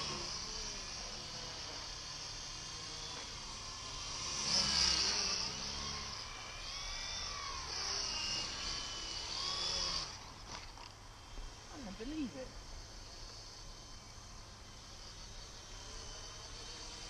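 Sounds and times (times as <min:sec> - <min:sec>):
toy helicopter rotor whine: 0:00.0 - 0:17.0.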